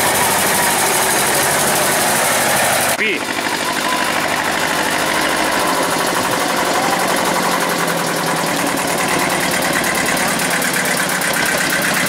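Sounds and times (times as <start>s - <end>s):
tractor engine puttering: 0.0s - 12.0s.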